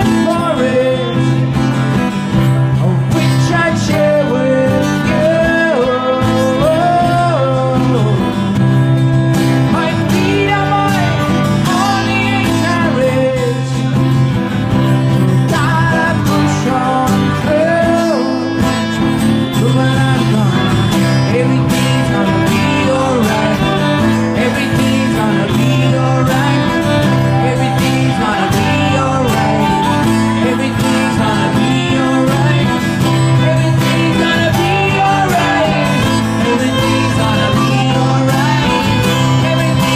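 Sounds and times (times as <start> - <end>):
person singing: 0.0 - 1.6, 2.6 - 8.6, 9.4 - 14.1, 15.4 - 39.9
acoustic guitar: 0.0 - 39.9.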